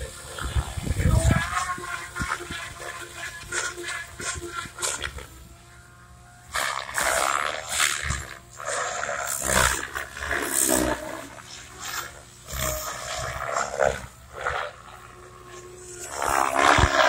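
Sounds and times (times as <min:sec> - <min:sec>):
model helicopter rotor roar: 0:00.0 - 0:17.0.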